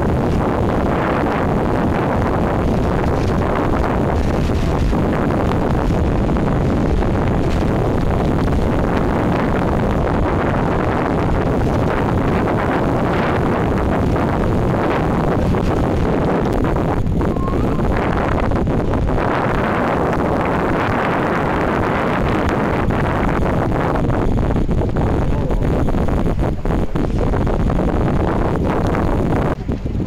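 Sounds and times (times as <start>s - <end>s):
boat engine running: 0.0s - 30.0s
wind buffeting microphone: 0.0s - 30.0s.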